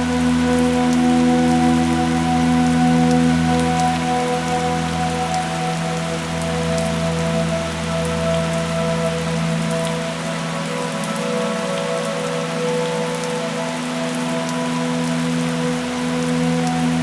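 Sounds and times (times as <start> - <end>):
soft ambient music: 0.0 - 17.0
steady rain: 0.0 - 17.0.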